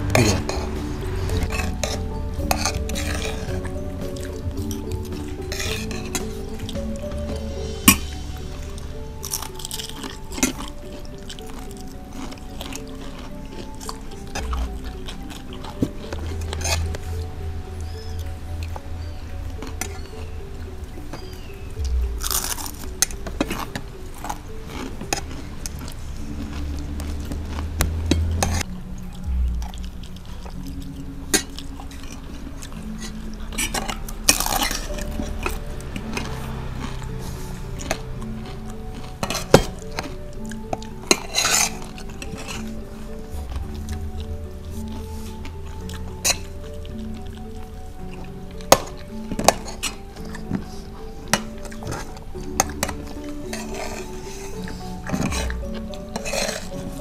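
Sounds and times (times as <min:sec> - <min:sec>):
soft background music: 0:00.0 - 0:57.0.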